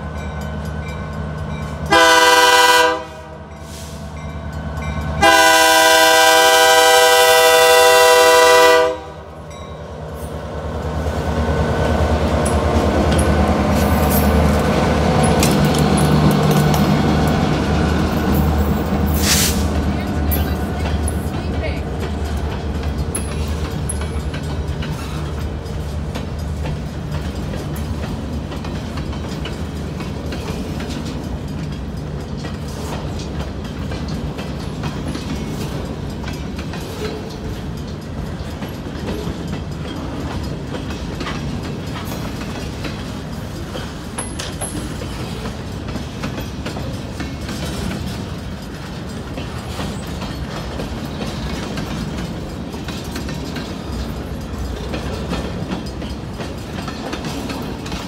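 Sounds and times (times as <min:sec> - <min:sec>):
train wheels rumbling on rail: 0:00.0 - 0:58.0
wheels clacking over rail joints: 0:09.5 - 0:58.0.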